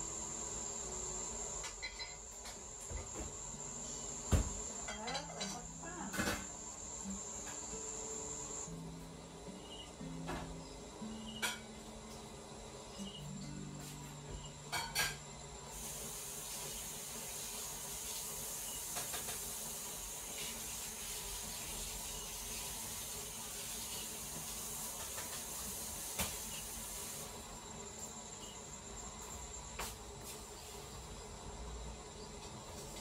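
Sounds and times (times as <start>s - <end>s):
steady high hiss: 0.0s - 33.0s.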